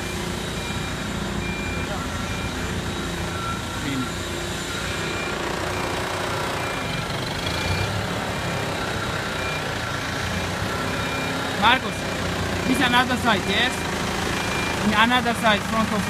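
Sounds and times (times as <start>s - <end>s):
diesel engine running: 0.0s - 16.0s
reversing alarm beeping: 0.0s - 16.0s.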